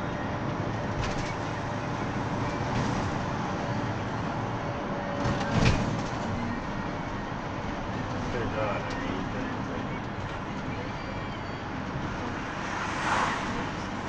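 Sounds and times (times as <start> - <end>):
engine and road noise: 0.0 - 14.0.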